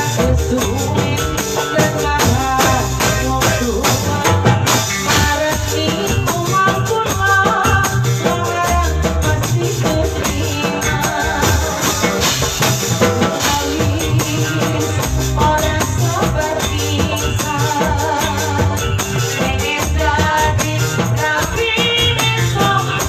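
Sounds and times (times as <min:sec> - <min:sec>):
band music: 0:00.0 - 0:23.0.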